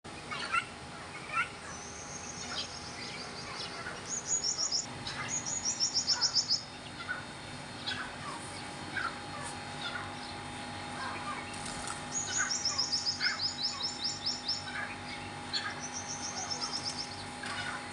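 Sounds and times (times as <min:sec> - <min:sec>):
birds chirping: 0:00.1 - 0:17.9
high-pitched bird trills: 0:00.3 - 0:08.2, 0:11.0 - 0:17.9.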